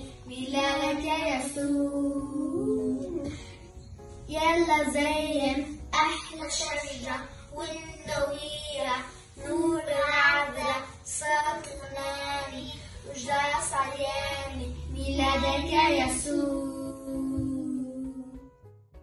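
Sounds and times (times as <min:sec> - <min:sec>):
girls singing a hymn: 0:00.0 - 0:03.6, 0:04.3 - 0:18.5.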